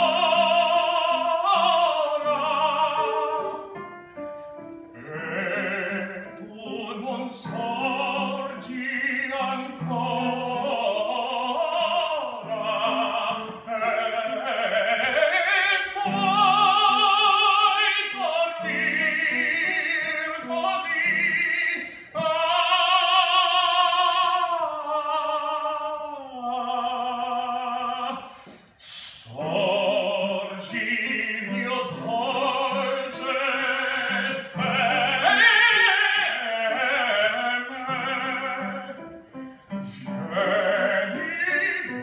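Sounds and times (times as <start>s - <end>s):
man singing opera with vibrato: 0.0s - 42.0s.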